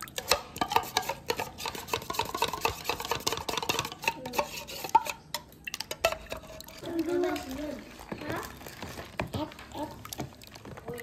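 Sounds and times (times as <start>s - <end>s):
spoon stirring in a container: 0.0s - 11.0s.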